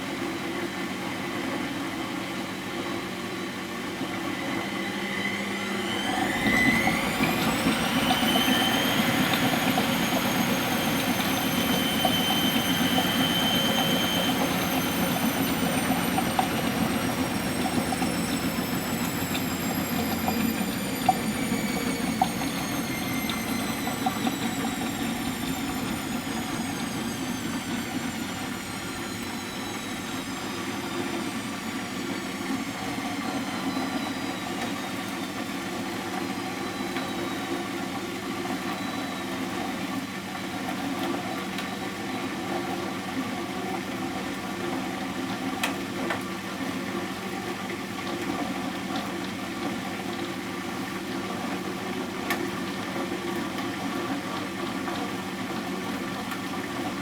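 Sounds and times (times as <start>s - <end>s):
washing machine hum and rumble: 0.0s - 57.0s
washing machine motor whine: 0.0s - 57.0s.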